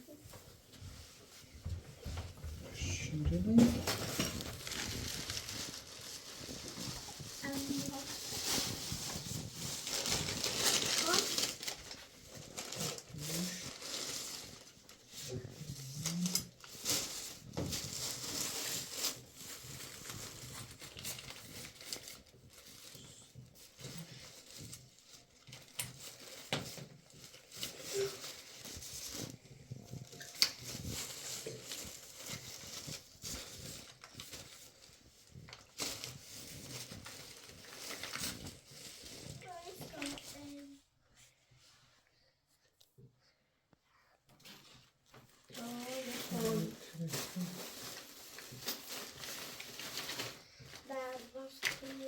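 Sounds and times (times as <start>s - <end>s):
plastic rustling and crinkling: 0.0s - 43.3s, 44.3s - 52.0s.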